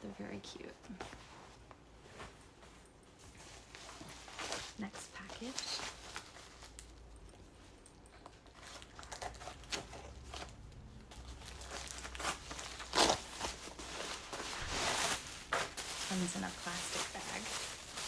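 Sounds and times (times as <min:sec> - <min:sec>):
plastic bag rustling: 0:00.1 - 0:18.0.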